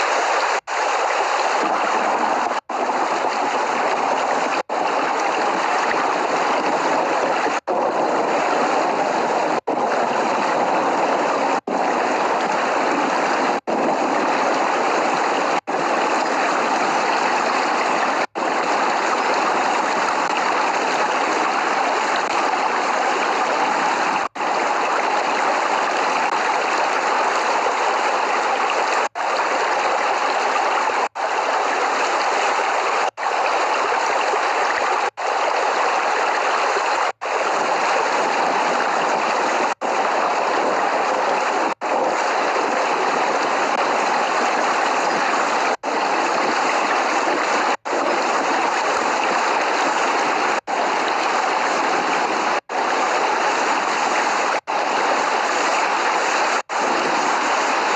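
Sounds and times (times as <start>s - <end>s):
heavy rain downpour: 0.0s - 57.9s.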